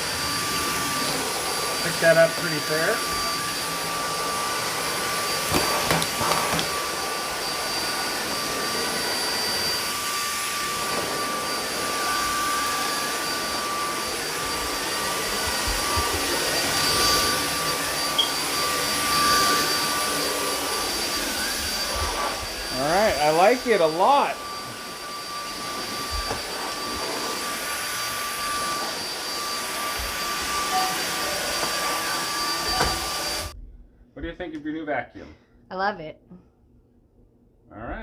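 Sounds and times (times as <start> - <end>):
cordless vacuum whine: 0.0 - 33.6.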